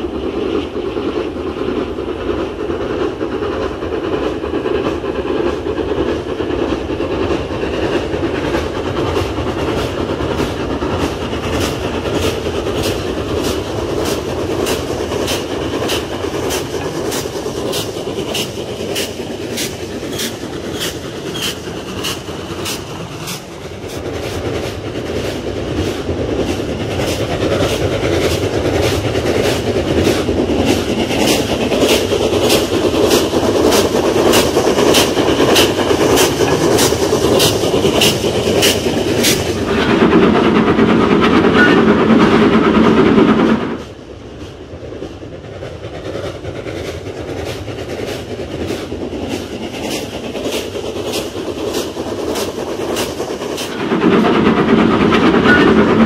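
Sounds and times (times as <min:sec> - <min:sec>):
train rumble: 0:00.0 - 0:56.0
wheels clacking over rail joints: 0:01.5 - 0:56.0.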